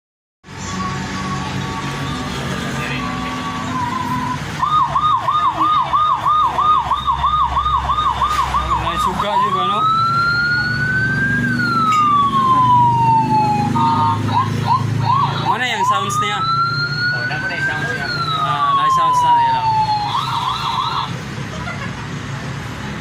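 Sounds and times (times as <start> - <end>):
toy electronic siren: 0.7 - 21.2.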